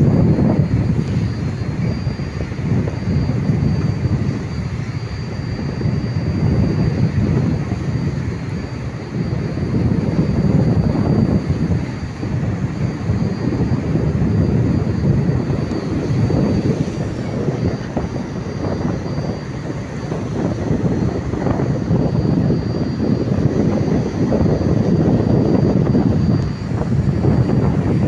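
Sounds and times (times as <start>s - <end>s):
boat engine drone: 0.0s - 28.0s
wind buffeting microphone: 0.0s - 28.0s.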